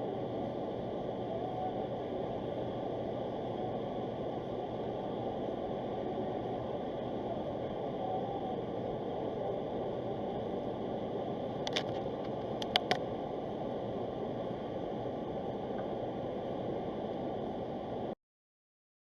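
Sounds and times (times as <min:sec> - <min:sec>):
road and engine noise in cabin: 0:00.0 - 0:18.2.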